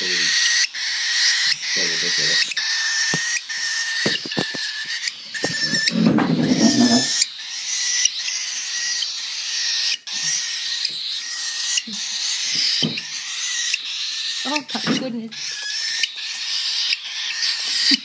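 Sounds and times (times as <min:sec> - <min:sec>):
baby birds begging calls: 0:00.0 - 0:18.0.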